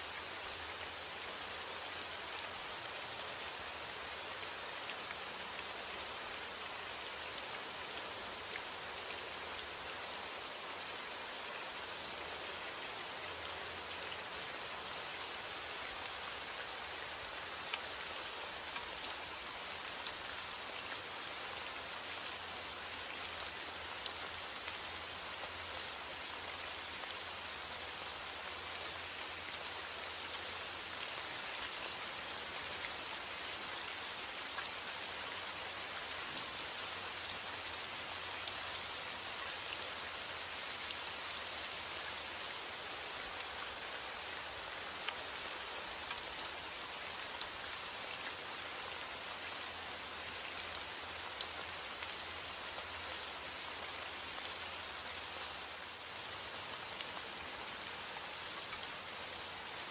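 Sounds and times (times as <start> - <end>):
heavy rain on a hard surface: 0.0 - 59.9.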